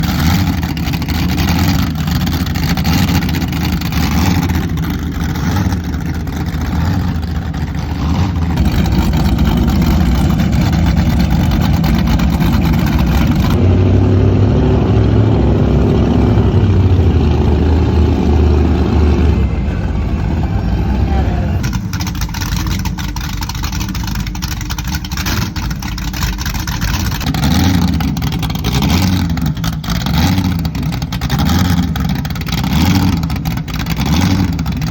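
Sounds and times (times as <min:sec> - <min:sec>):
speedboat engines idling loudly: 0:00.0 - 0:34.9.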